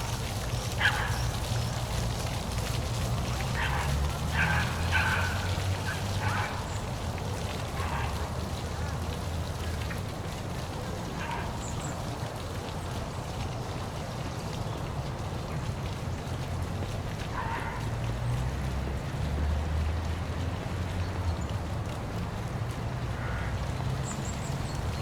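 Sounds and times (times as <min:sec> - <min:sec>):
waterfall rushing and splashing: 0:00.0 - 0:23.1.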